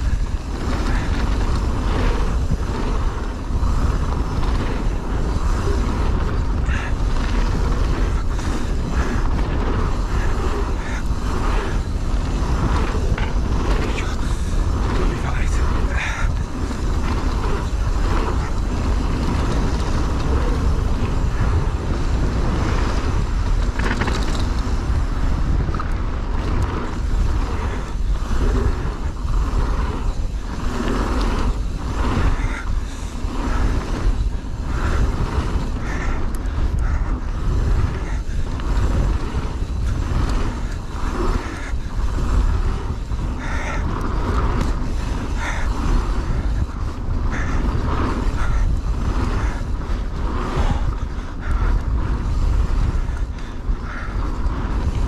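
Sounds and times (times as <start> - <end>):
bike tyres and frame rattling: 0.0 - 55.0
wind on microphone: 0.0 - 55.0.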